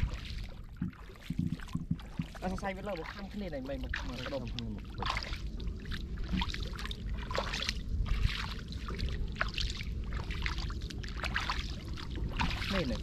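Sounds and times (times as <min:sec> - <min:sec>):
steady low rumble: 0:00.0 - 0:13.0
water splashing and sloshing: 0:00.0 - 0:13.0.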